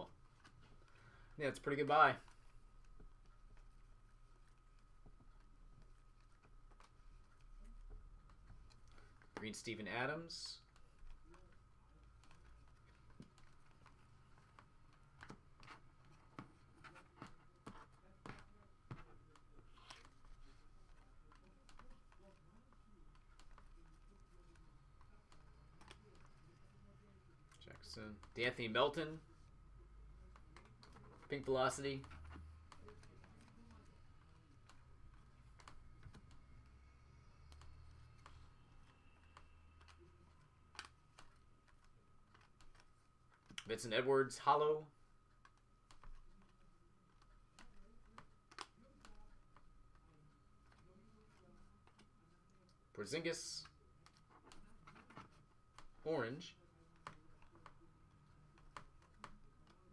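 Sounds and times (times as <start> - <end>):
low room hum: 0.0 - 59.9
faint clicks and taps: 2.2 - 9.5, 10.3 - 43.8, 44.4 - 53.0, 53.6 - 56.0, 56.6 - 59.9.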